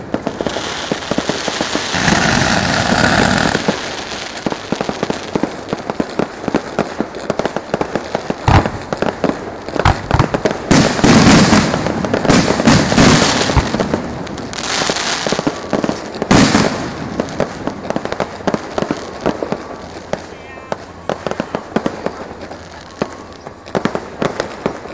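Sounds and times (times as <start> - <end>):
firecrackers crackling: 0.0 - 24.9
heavy firework bangs: 0.0 - 24.9.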